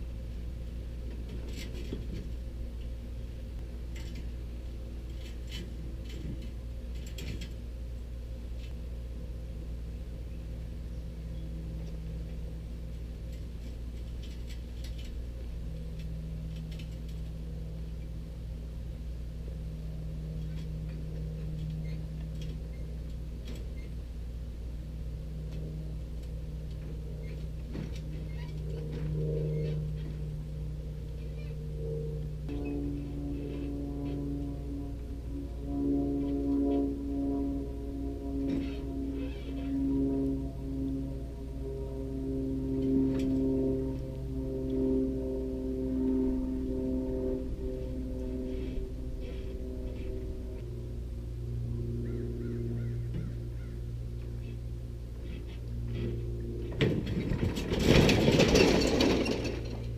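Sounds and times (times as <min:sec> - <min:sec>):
motor running with hum: 0:00.0 - 0:59.9.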